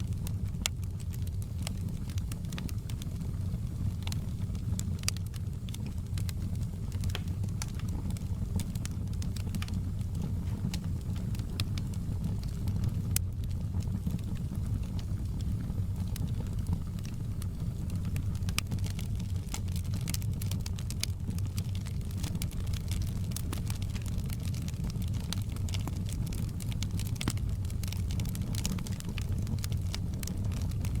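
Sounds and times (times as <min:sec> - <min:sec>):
low rumble of flames: 0:00.0 - 0:31.0
wood fire crackling: 0:00.0 - 0:31.0.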